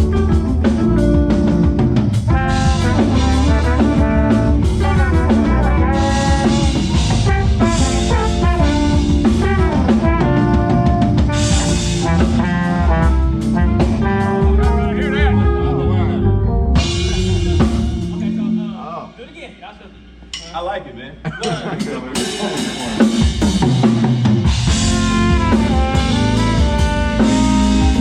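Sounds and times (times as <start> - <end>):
drum kit: 0.0 - 15.8, 16.6 - 28.0
horns: 0.0 - 19.4, 22.6 - 28.0
bass: 0.0 - 28.0.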